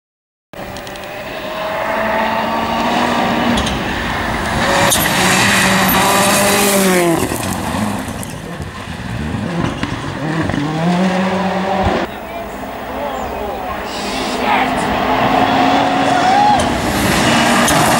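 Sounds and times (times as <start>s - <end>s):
rally car engine at high revs: 0.6s - 12.1s, 13.8s - 17.9s.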